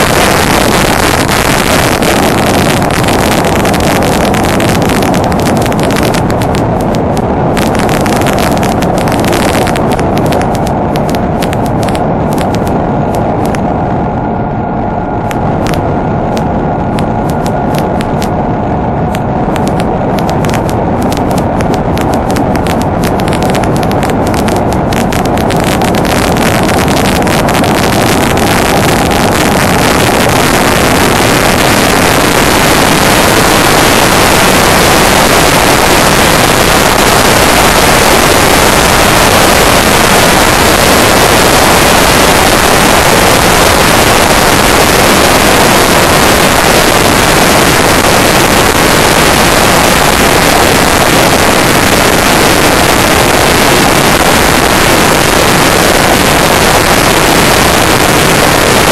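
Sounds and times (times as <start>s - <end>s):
wind rush on microphone: 0.0s - 58.9s.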